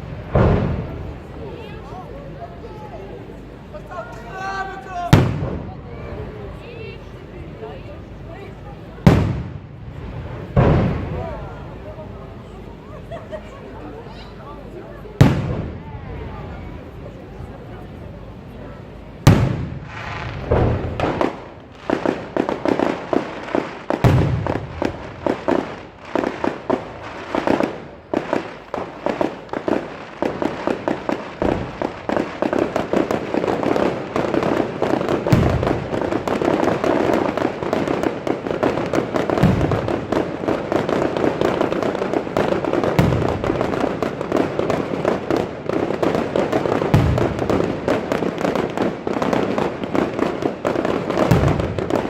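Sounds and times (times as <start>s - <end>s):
fireworks booms: 0.0s - 2.9s, 4.2s - 12.3s, 15.1s - 52.0s
fireworks crackling: 0.0s - 52.0s.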